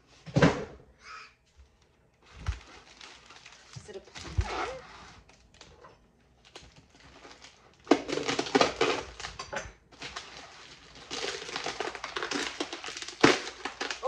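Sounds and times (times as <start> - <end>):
plastic bubble wrap crinkling: 2.2 - 14.0.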